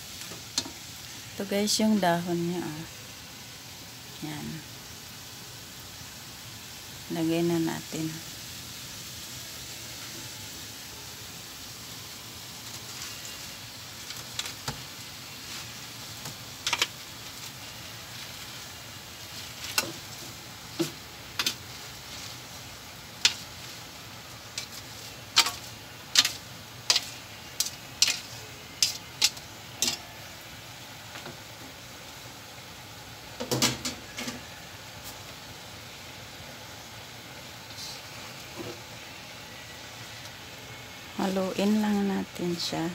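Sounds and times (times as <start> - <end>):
vegetables sizzling in a pan: 0.0 - 42.9.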